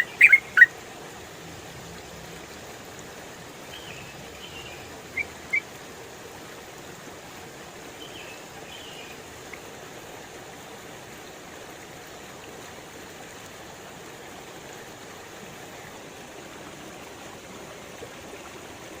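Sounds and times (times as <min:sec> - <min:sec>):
flowing stream: 0:00.0 - 0:19.0.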